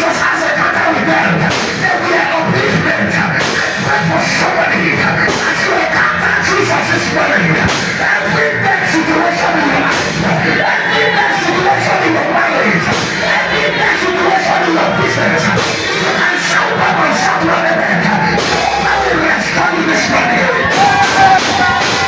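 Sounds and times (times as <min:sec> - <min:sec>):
loud rock music: 0:00.0 - 0:22.0.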